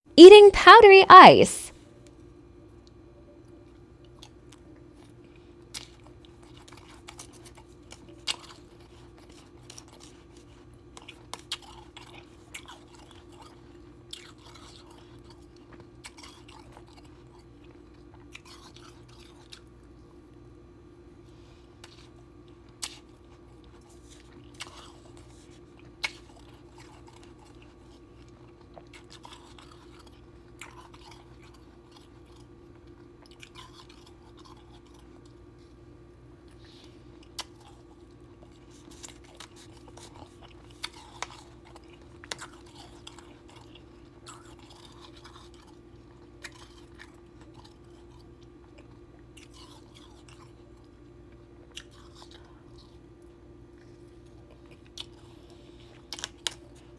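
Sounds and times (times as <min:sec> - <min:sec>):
chewing: 0:04.0 - 0:20.0, 0:21.3 - 0:56.9.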